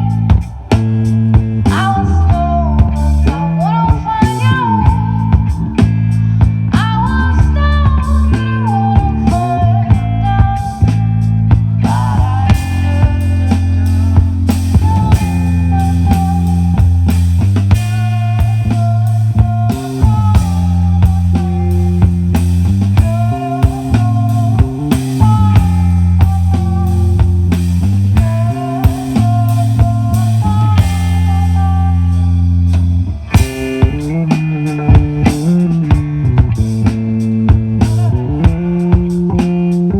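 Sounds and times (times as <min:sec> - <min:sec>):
bass guitar low notes: 0:00.0 - 0:39.9
drum kit steady beat: 0:00.0 - 0:39.9
guitar melodic line: 0:00.0 - 0:39.9.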